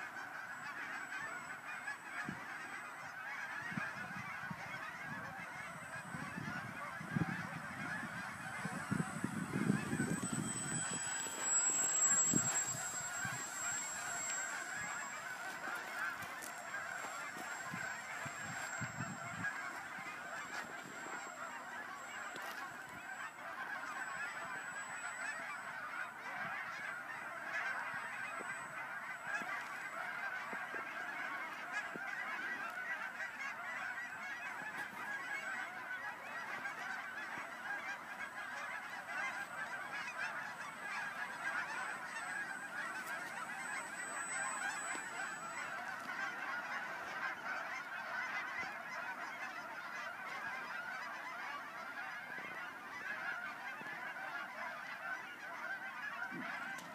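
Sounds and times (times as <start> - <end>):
chorus of animal calls: 0.0 - 56.9.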